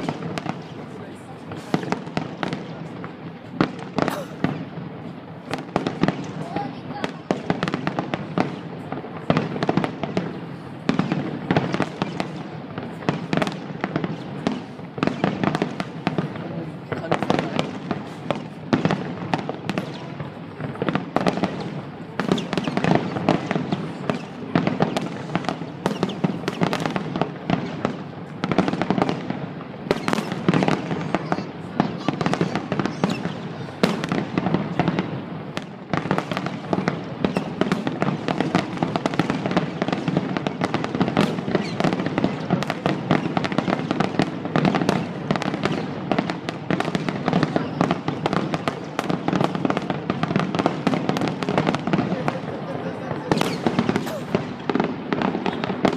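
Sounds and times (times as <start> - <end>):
aerial fireworks bursting: 0.0 - 55.9.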